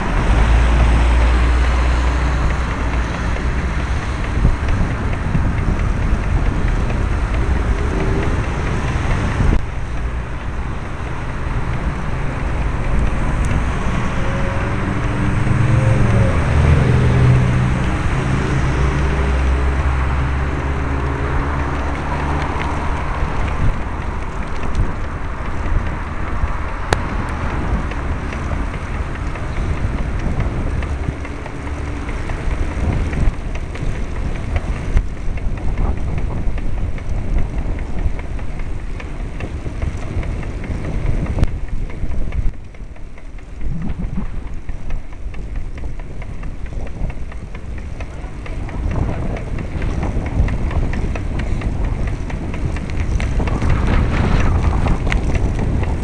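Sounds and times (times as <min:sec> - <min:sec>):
bicycle road noise: 0:00.0 - 0:56.0
motor vehicle engine: 0:00.0 - 0:56.0
wind buffeting microphone: 0:00.0 - 0:56.0.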